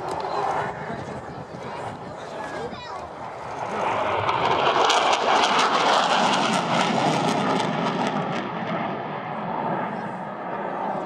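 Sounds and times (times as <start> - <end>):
jet fighters flying past: 0.0 - 11.0.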